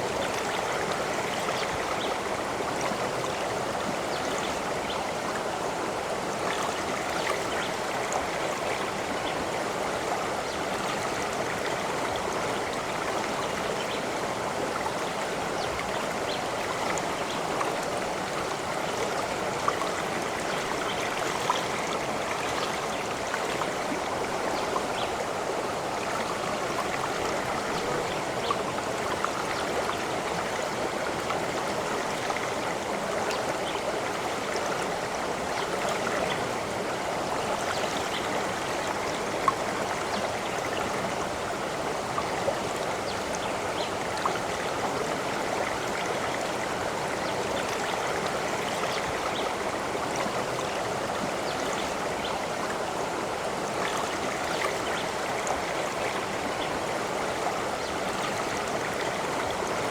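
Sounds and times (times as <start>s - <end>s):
stream water gurgling over rocks: 0.0s - 59.9s.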